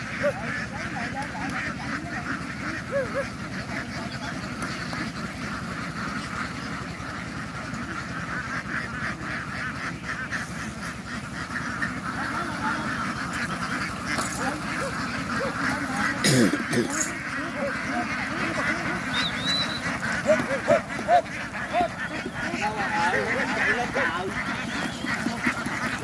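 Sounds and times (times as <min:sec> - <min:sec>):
flock of ducks quacking: 0:00.0 - 0:26.0.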